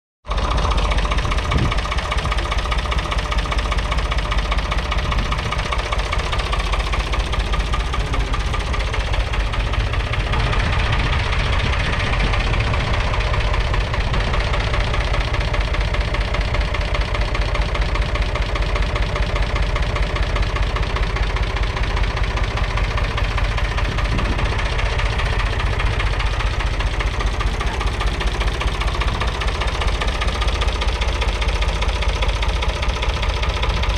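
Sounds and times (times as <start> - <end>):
tractor diesel engine idling: 0.2 - 33.9.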